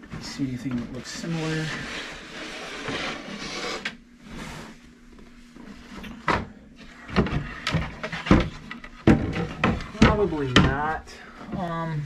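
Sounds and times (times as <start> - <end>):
items rustling and scraping: 0.0 - 11.9.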